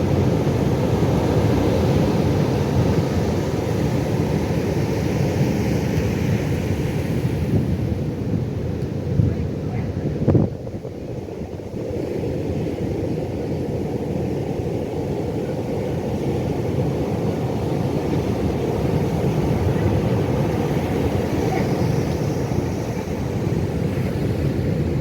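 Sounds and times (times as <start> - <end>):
ocean surf rumbling: 0.0 - 25.0.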